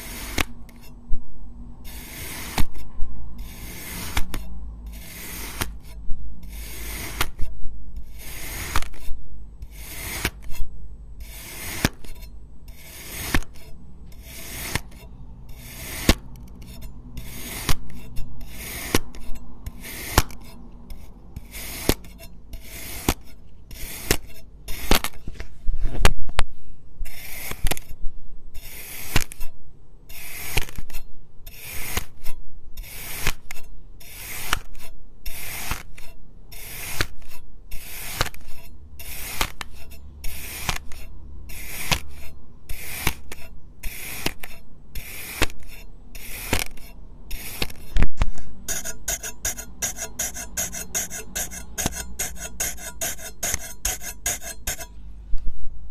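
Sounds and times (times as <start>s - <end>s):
knife cutting through sand: 0.0s - 0.9s, 1.8s - 10.6s, 11.2s - 25.2s, 27.1s - 28.0s, 28.6s - 29.5s, 30.1s - 54.9s.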